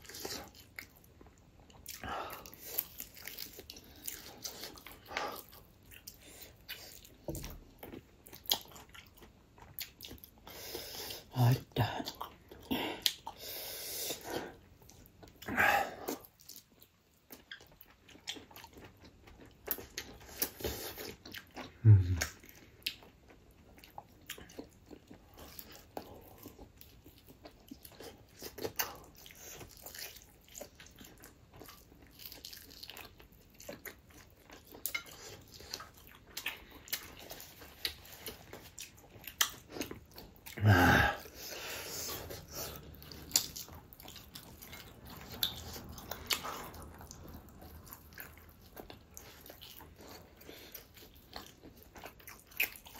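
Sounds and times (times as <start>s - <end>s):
person chewing and biting: 0.0s - 11.3s, 14.0s - 52.9s.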